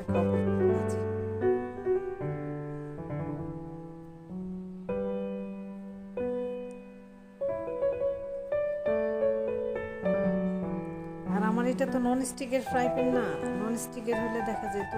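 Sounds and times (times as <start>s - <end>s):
piano notes: 0.0s - 14.9s.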